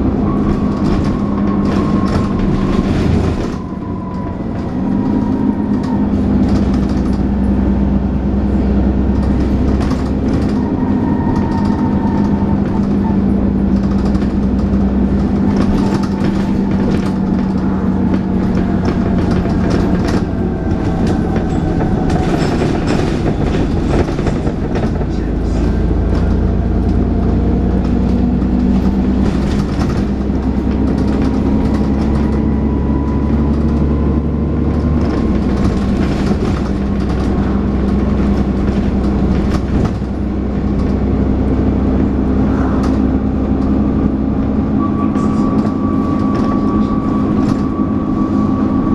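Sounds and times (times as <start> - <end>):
bus body rattles and knocks: 0.0 - 48.9
bus diesel engine working hard: 0.0 - 48.9.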